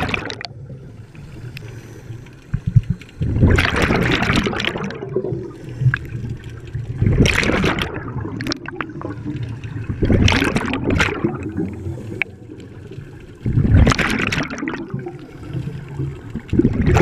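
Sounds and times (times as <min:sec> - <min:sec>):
bubbles rushing and gurgling: 0:00.0 - 0:17.0.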